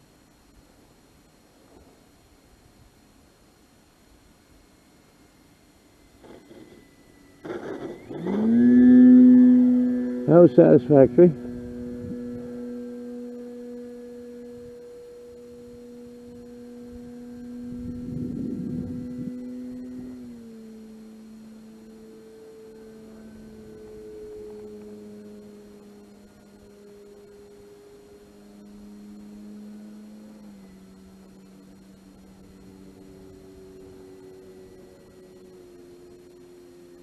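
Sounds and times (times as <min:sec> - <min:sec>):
model plane motor droning: 0:00.0 - 0:37.0.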